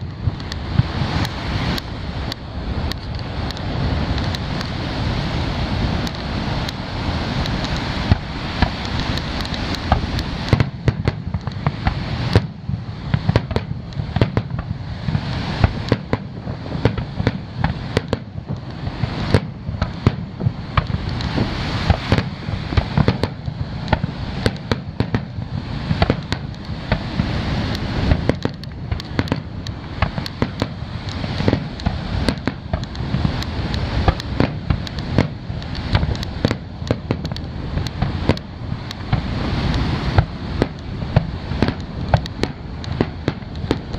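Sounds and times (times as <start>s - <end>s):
low rumble: 0.0s - 43.9s
firework shells bursting: 7.4s - 43.9s.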